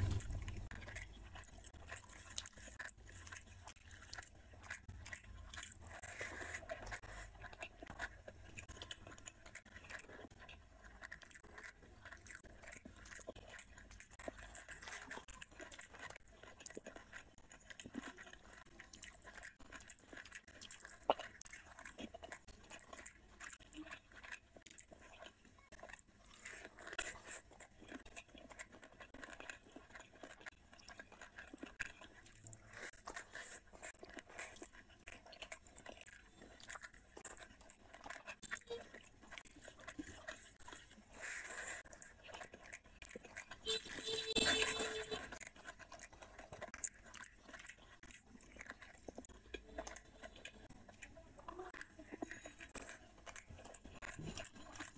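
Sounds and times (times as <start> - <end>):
person chewing and smacking: 0.0 - 54.9.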